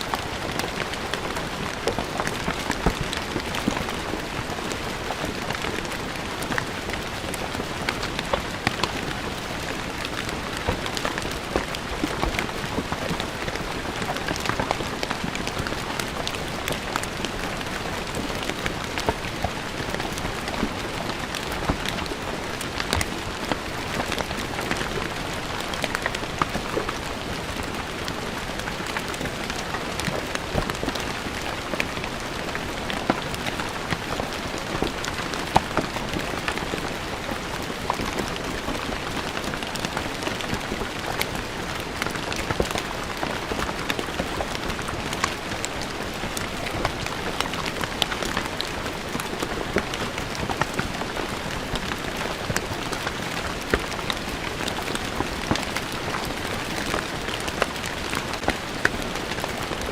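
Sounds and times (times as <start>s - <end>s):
rain falling on stone floor: 0.0s - 59.9s.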